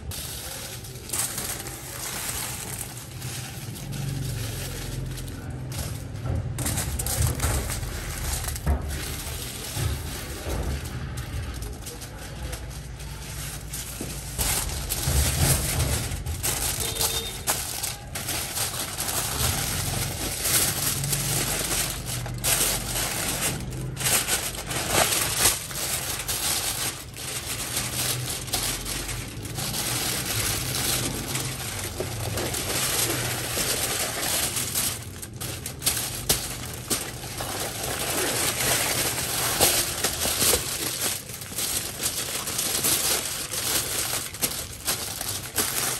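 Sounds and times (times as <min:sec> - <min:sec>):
aluminium foil crinkling: 0:00.0 - 0:45.9.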